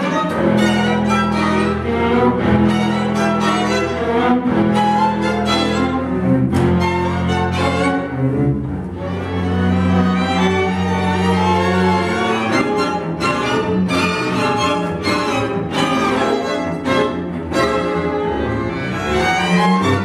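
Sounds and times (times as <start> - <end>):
string orchestra playing tango: 0.0 - 20.0.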